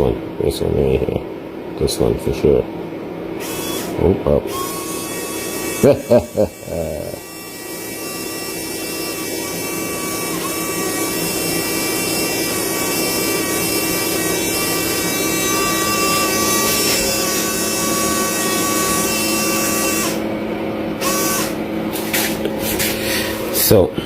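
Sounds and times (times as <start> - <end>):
electric motor and gears whining: 3.4 - 23.8.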